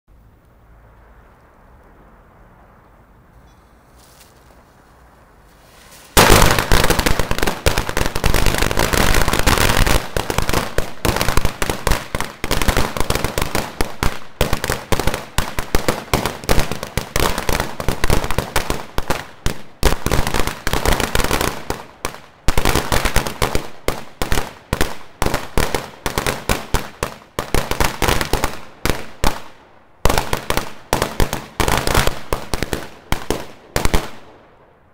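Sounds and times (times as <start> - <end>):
firecrackers banging: 5.6 - 34.3.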